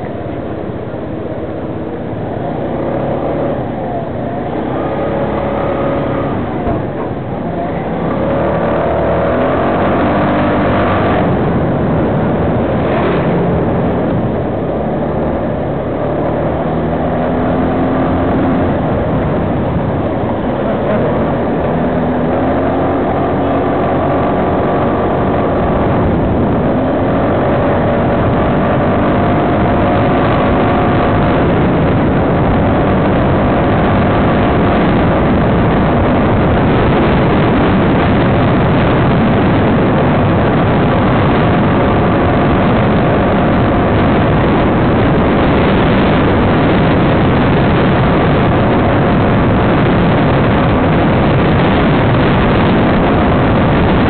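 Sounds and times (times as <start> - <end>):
vehicle engine drone: 0.0 - 54.0
wind rush on microphone: 0.0 - 54.0.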